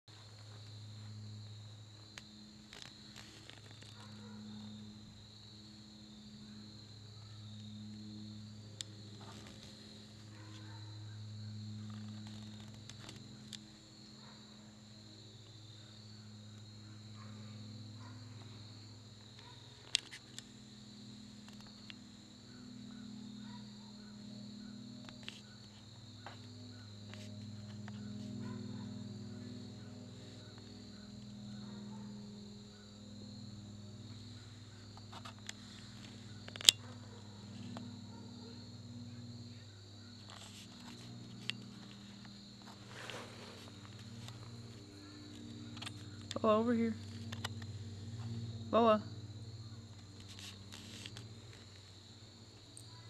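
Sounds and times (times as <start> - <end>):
insect chorus buzzing: 0.1 - 53.0.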